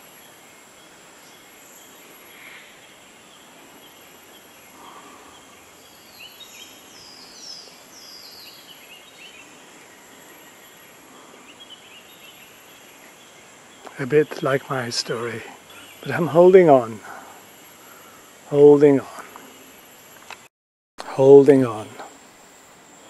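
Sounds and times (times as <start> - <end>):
high insect hiss: 0.0 - 20.5, 21.1 - 23.0.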